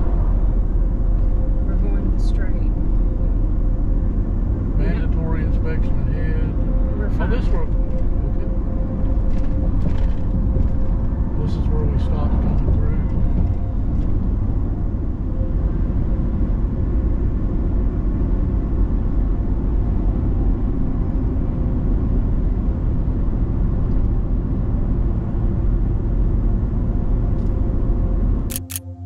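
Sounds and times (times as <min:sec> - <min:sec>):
engine and road noise in cab: 0:00.0 - 0:29.0.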